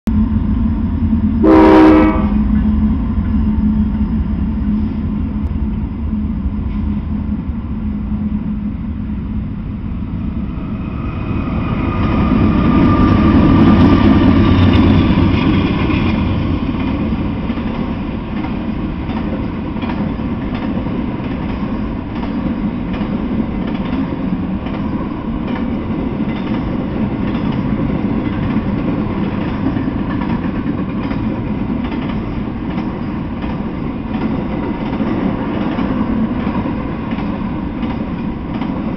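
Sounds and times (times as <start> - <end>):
diesel locomotive engines humming: 0.1 - 38.9
freight cars rumbling and clattering: 2.4 - 38.9.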